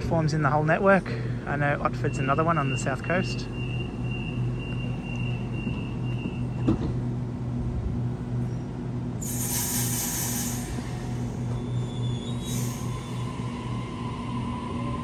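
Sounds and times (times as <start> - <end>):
electric train low hum: 0.0 - 15.0.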